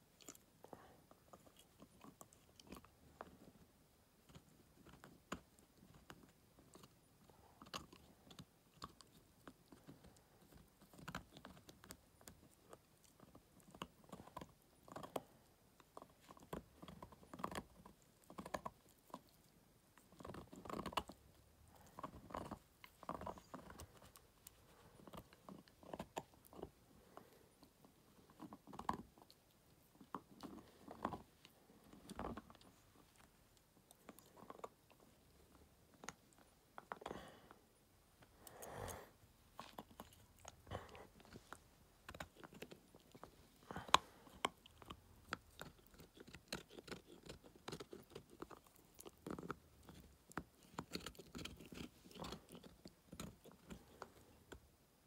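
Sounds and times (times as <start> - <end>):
dog gnawing chew stick: 0.0 - 37.5, 38.2 - 54.7.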